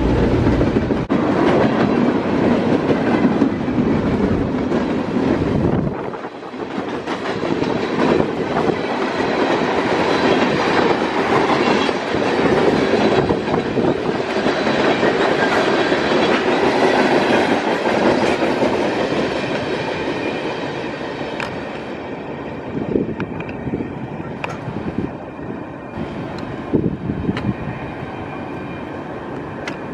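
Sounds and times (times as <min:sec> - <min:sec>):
train wheels rumbling on rails: 0:00.0 - 0:29.9.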